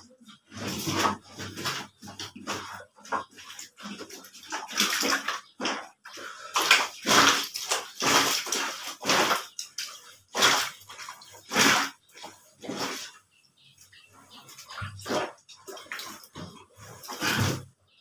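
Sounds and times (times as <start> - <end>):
wet cloth scrubbing: 0.3 - 13.2, 13.9 - 17.7.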